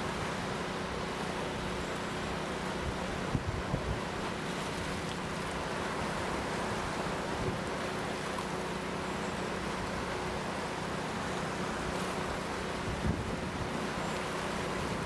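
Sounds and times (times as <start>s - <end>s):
fast river water rushing: 0.0s - 15.0s.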